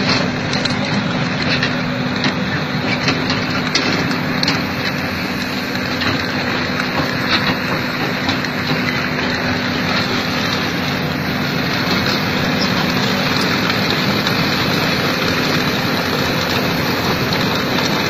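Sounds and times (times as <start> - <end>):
drum cutter grinding rock: 0.0 - 18.0.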